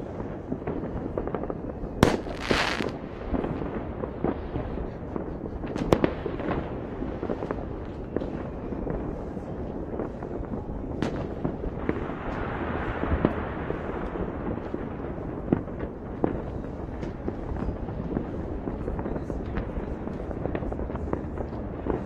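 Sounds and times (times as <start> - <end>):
fireworks and firecrackers banging: 0.0 - 22.0.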